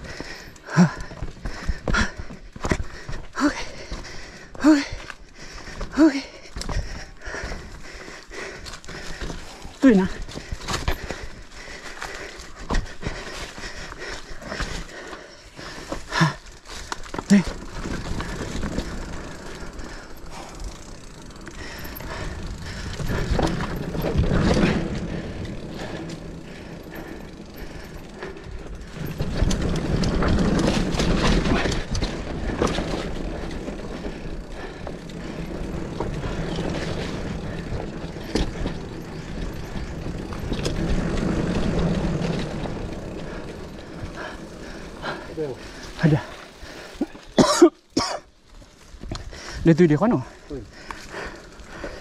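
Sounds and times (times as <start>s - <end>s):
bike rattling with clicks: 0.0s - 52.0s
bike tyres rolling on dirt: 0.0s - 52.0s.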